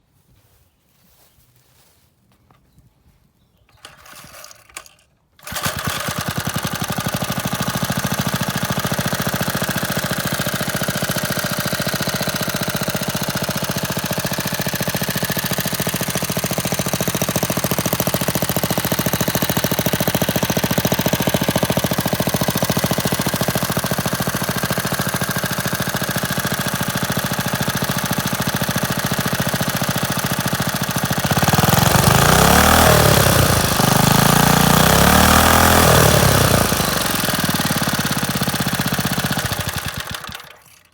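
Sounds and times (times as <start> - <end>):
engine running steadily: 5.4 - 40.8.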